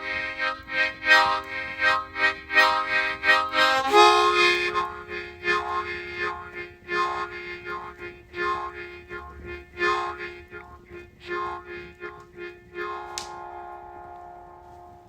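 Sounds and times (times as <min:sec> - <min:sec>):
harmonica playing chords: 0:00.0 - 0:15.0.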